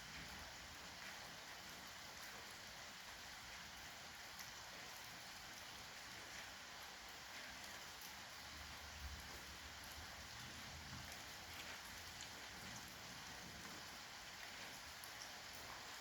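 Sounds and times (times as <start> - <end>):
rain drops ticking: 0.0 - 16.0
steady rain hiss: 0.0 - 16.0.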